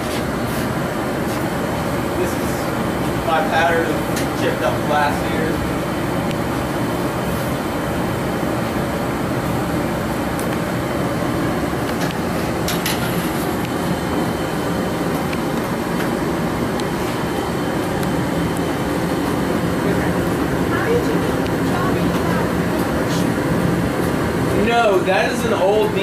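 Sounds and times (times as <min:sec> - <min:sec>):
gas furnace roaring: 0:00.0 - 0:26.0.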